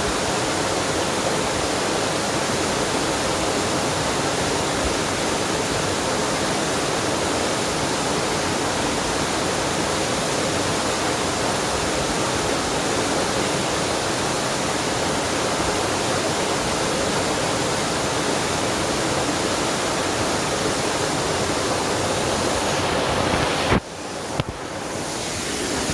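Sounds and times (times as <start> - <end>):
waterfall rushing water: 0.0 - 25.9.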